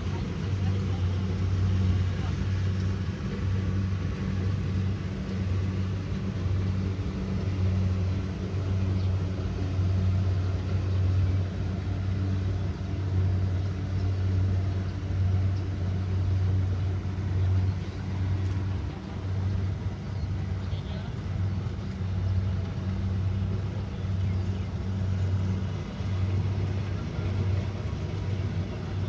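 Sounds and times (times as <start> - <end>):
combine harvester engine humming: 0.0 - 29.0.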